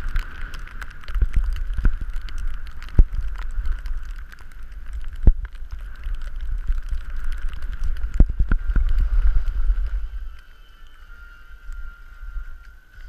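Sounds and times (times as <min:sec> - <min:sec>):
skis sliding over snow: 0:00.0 - 0:13.0
wind rumble on microphone: 0:00.0 - 0:13.0.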